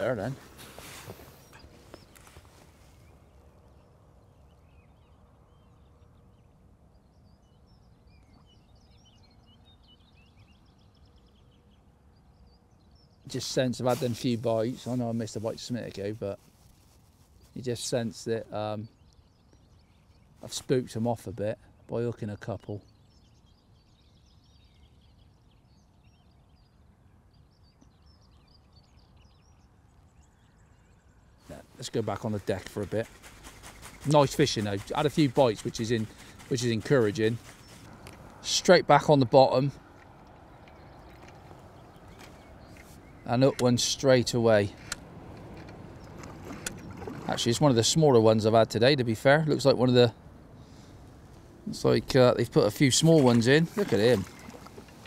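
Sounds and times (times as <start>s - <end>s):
small birds singing: 0.0s - 55.0s
songbird chirps and twittering: 0.0s - 55.0s.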